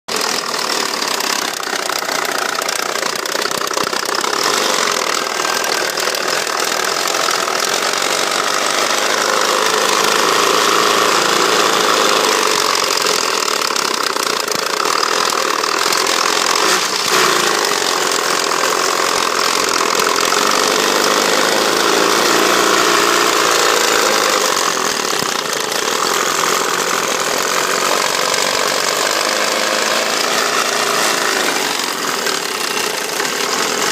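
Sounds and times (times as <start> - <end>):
car engine knocking: 0.1 - 33.9.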